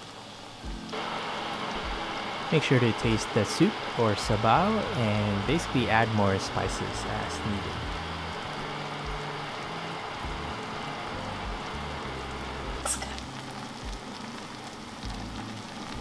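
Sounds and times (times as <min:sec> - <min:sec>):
soup bubbling in a pot: 0:00.0 - 0:16.0.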